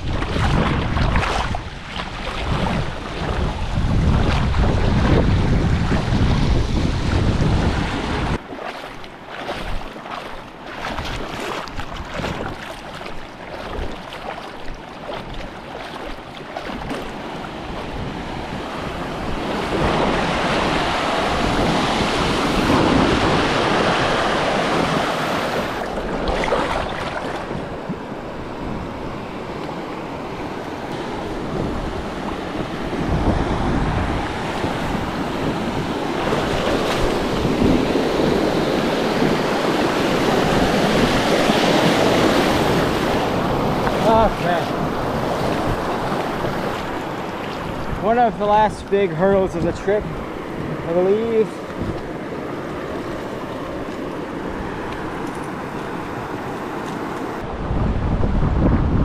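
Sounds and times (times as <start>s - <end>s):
wind buffeting microphone: 0.0s - 29.5s, 30.9s - 59.0s
rushing river water: 0.0s - 57.5s.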